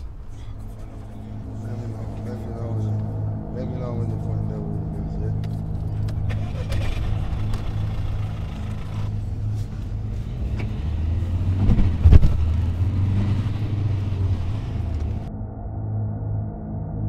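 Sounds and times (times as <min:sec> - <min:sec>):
car engine revving: 0:00.0 - 0:15.3
steady low hum: 0:00.0 - 0:16.3.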